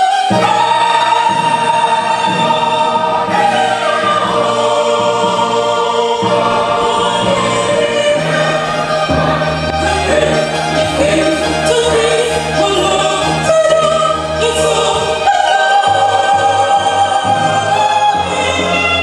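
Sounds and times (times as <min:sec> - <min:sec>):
choir singing gospel: 0:00.0 - 0:19.0
woman singing into microphone: 0:00.0 - 0:19.0
low held accompaniment notes: 0:00.3 - 0:19.0.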